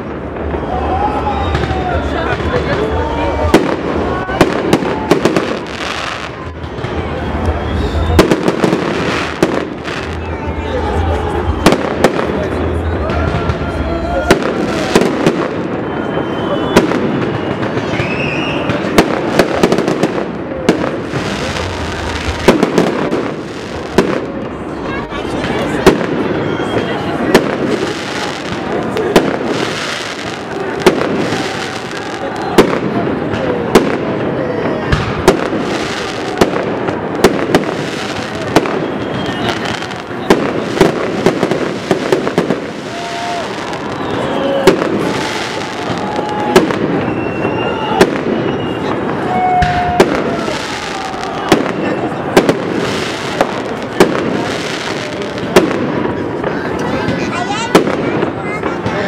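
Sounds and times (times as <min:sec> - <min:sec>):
fireworks crackle: 0:00.0 - 0:59.0.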